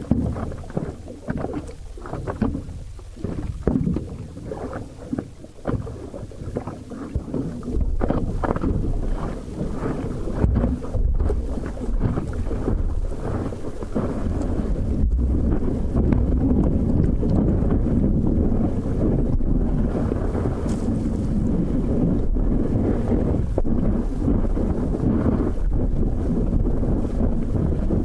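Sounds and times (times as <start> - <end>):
water splashing against paddle board: 0.0 - 28.0
wind rushing on microphone: 0.0 - 28.0.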